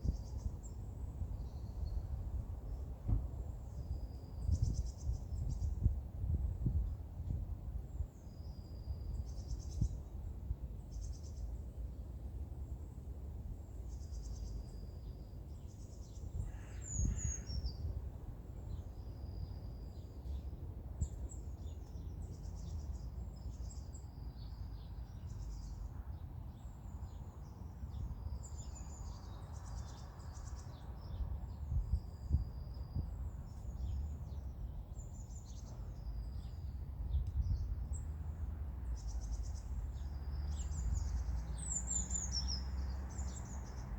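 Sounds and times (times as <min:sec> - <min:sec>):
songbirds singing: 0:00.0 - 0:43.9.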